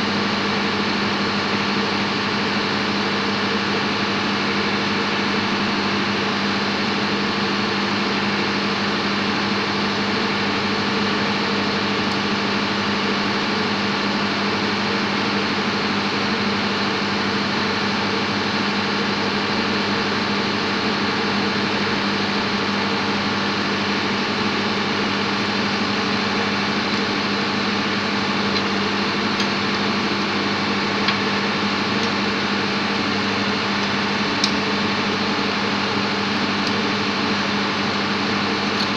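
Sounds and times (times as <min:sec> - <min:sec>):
engine room machinery drone: 0:00.0 - 0:38.9.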